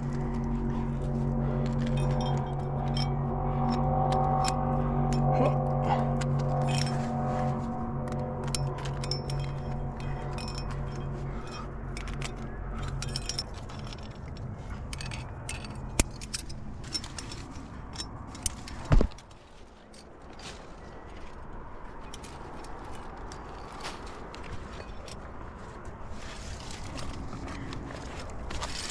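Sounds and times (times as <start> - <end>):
metal climbing gear clinking: 0.0 - 28.9.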